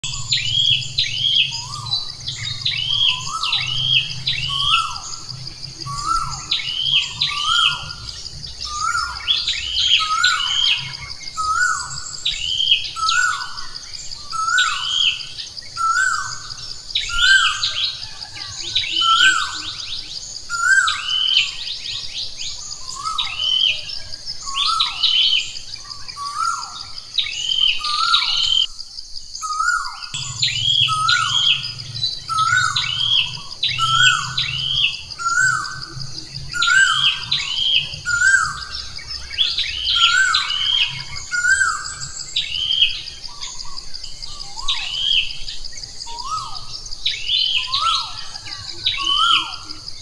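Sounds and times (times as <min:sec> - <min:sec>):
high insect trill: 0:00.0 - 0:50.0
songbirds calling: 0:00.0 - 0:50.0.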